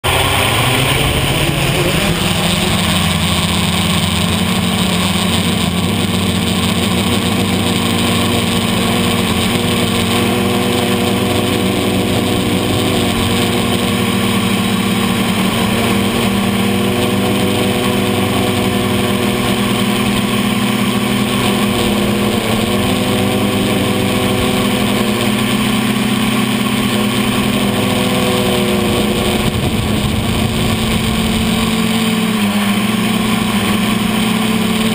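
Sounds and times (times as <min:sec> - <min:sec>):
drone propellers buzzing: 0:00.0 - 0:34.9.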